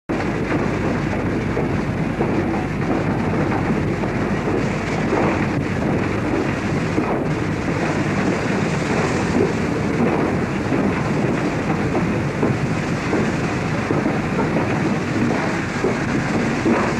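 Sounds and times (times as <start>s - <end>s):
steam train rumbling: 0.1s - 16.9s
wind buffeting microphone: 0.1s - 16.9s.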